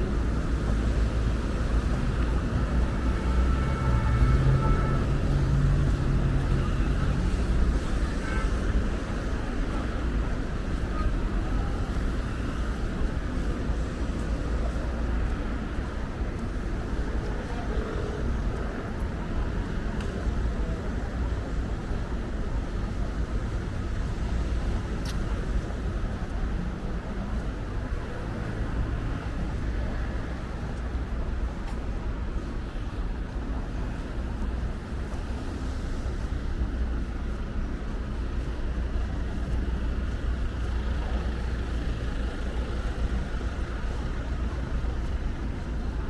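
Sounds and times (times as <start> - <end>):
low engine hum: 0.0 - 46.0
low rumble of vehicle noise: 0.0 - 46.0.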